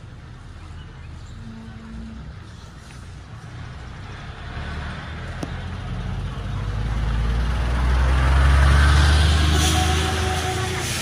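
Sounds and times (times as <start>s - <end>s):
heavy vehicle rumbling: 0.0s - 11.0s.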